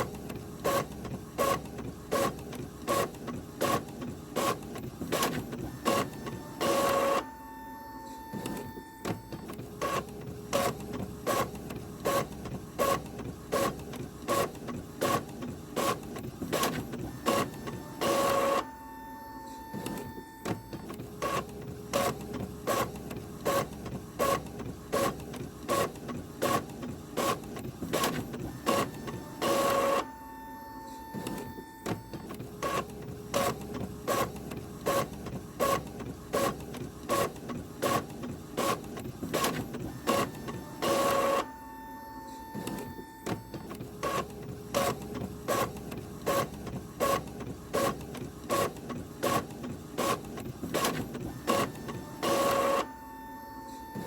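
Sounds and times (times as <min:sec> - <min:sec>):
printer humming: 0:00.0 - 0:54.0
printer printing burst: 0:00.0 - 0:54.0
printer rhythmic clicking: 0:00.0 - 0:54.0.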